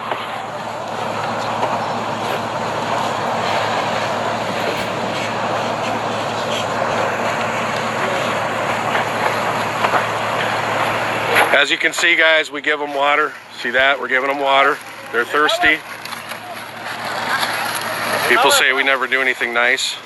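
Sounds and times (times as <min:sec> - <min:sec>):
heavy engine droning: 0:00.0 - 0:19.5.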